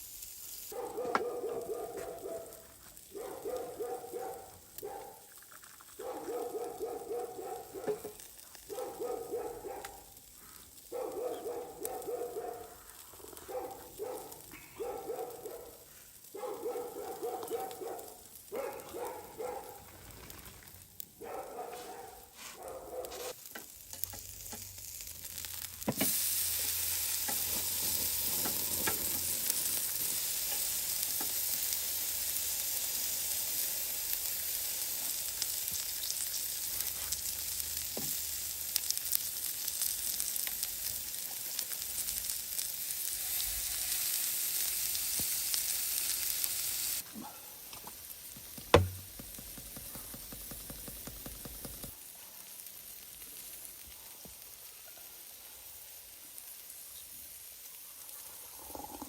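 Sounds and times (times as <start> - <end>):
steak sizzling on grill: 0.0 - 59.0.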